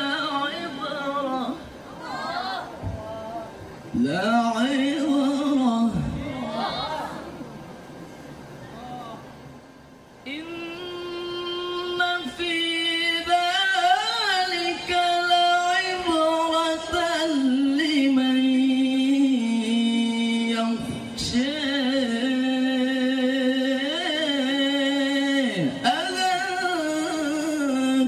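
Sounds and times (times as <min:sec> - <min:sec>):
man reciting melodically through pa: 0:00.0 - 0:07.4, 0:10.0 - 0:28.0.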